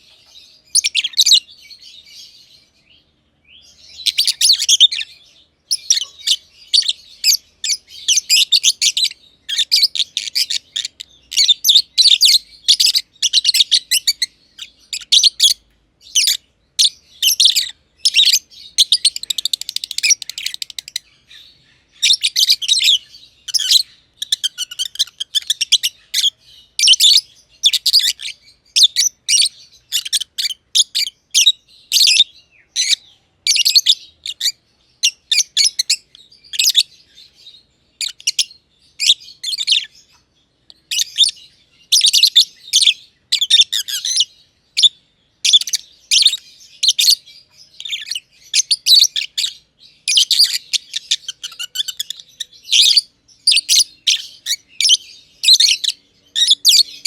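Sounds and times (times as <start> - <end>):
lovebirds chirping: 0.0 - 57.0
rapid bird chattering: 3.8 - 40.0, 40.8 - 57.0.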